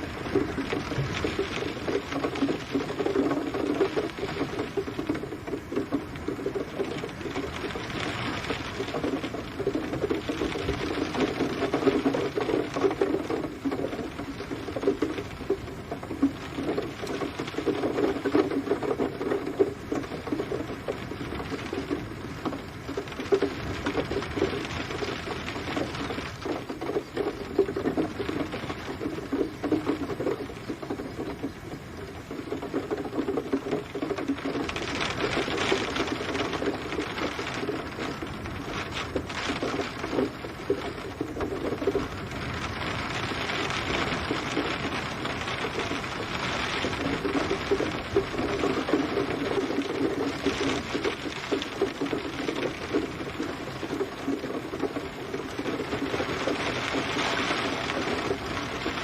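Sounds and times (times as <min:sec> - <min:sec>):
rain drumming on hard surface: 0:00.0 - 0:59.0.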